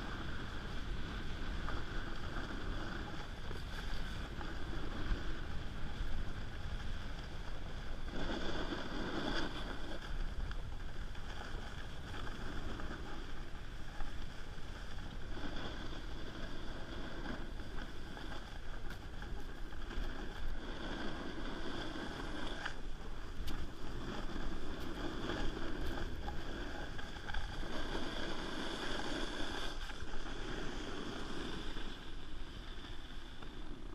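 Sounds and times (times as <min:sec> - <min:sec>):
snowboard scraping over snow: 0:00.0 - 0:33.9
wind on microphone: 0:00.0 - 0:33.9.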